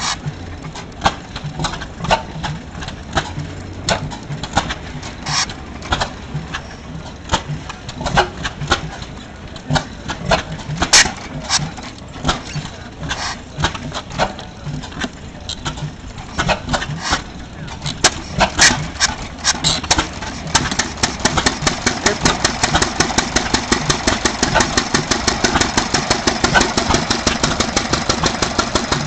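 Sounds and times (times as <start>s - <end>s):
stationary gas engine popping: 0.0s - 29.0s.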